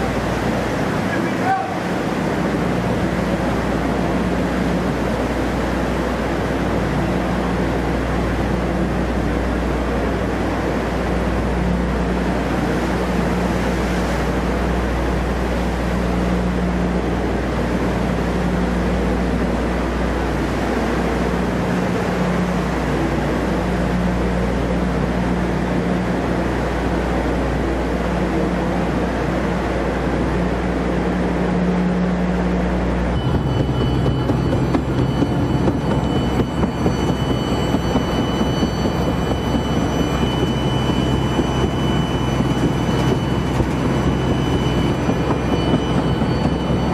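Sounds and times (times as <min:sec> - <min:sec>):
tracks churning water: 0:00.0 - 0:46.9
vehicle engine low drone: 0:00.0 - 0:46.9.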